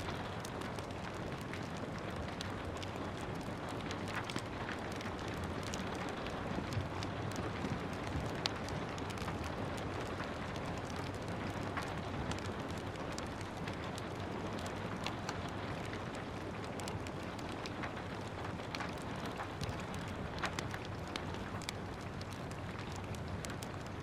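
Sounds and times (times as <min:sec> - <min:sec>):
gentle rain: 0:00.0 - 0:24.0
wood fire crackling: 0:00.0 - 0:24.0.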